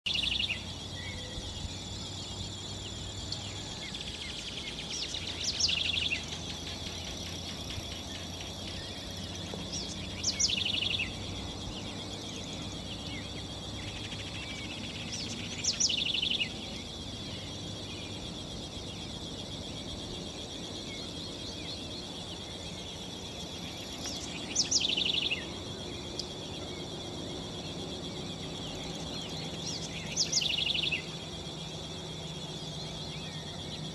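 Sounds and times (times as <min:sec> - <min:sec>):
bird call of rapid pulses: 0:00.1 - 0:33.9
high insect buzz: 0:00.1 - 0:33.9.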